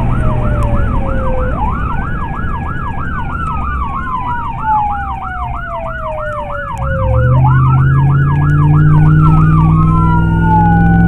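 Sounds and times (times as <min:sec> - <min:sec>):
engine and road noise: 0:00.0 - 0:11.0
siren wailing: 0:00.0 - 0:11.0
siren yelping: 0:00.0 - 0:11.0.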